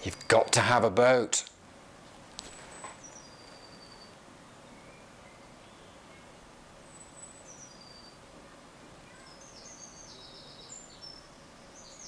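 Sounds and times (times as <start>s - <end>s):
faint birdsong: 0.0s - 0.8s, 1.4s - 12.0s
background hiss: 0.0s - 12.0s.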